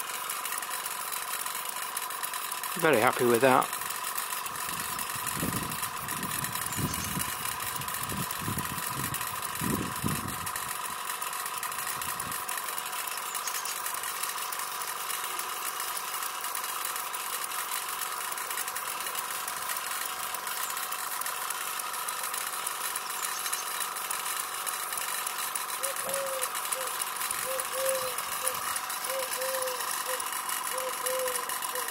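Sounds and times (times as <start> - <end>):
steam engine whirring: 0.0 - 31.9.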